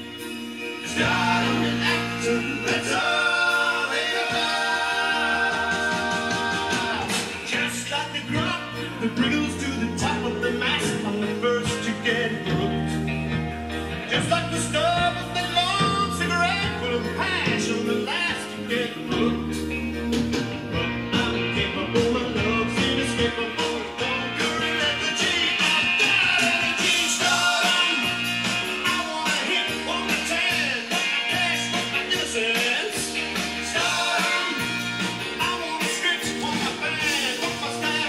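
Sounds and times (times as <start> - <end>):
song with singing voice: 0.0 - 38.0.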